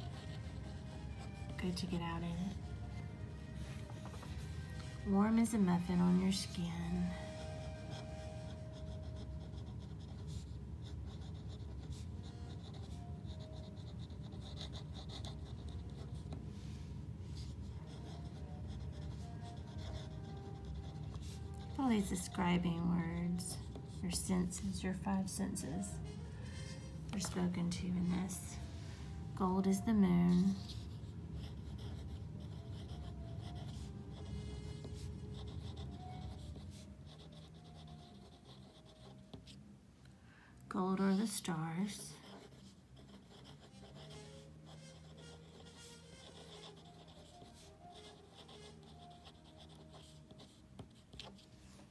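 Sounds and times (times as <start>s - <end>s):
pen scratching on paper: 0.0s - 2.6s, 3.8s - 16.4s, 17.4s - 28.4s, 29.8s - 39.6s, 41.0s - 51.5s
low steady hum: 0.0s - 51.9s.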